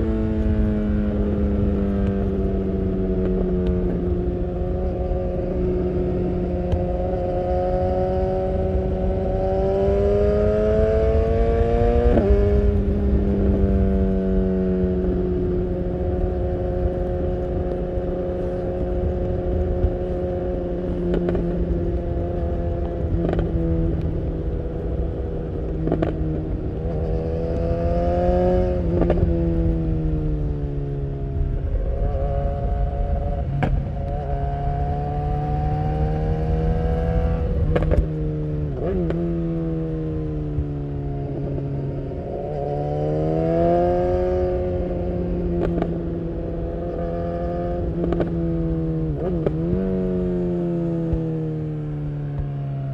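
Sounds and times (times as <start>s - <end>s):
motorcycle engine revving: 0.0s - 52.9s
wind and road noise: 0.0s - 52.9s.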